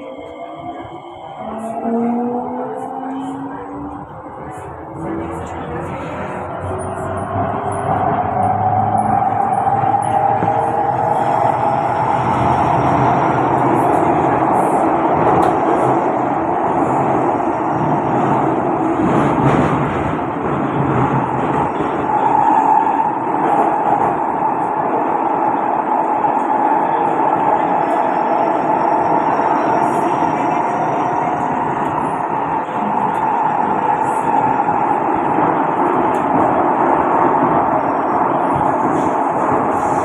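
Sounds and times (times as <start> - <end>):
train wheels rumbling on rail: 0.6 - 40.0.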